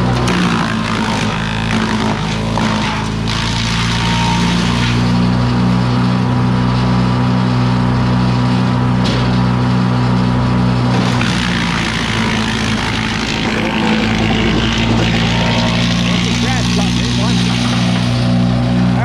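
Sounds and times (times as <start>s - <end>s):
wood chipper engine humming: 0.0s - 19.0s.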